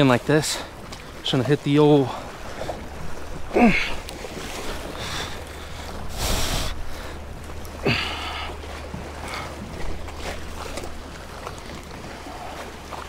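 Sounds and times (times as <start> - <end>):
wind rumbling on microphone: 2.3 - 13.0.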